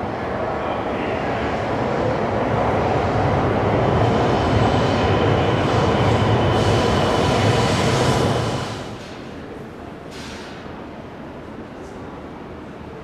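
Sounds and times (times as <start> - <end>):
train wheels rumbling on rail: 0.0 - 11.1.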